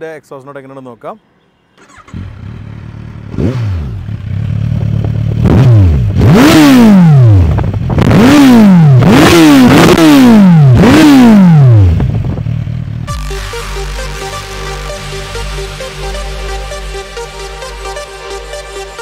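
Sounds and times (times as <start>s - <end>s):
motorcycle engine idling and revving: 1.8s - 19.0s.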